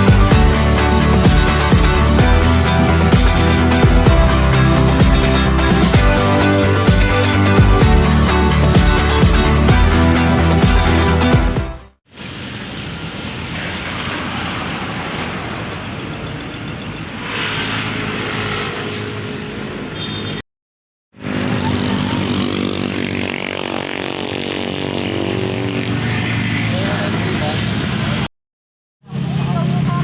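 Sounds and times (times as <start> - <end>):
road noise: 0.0 - 20.4, 21.2 - 28.3.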